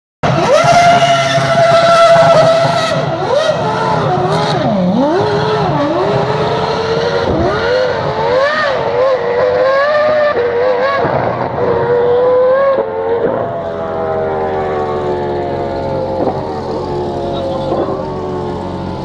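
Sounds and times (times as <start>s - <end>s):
racing car engine revving: 0.2s - 19.0s
tyres skidding: 0.2s - 19.0s.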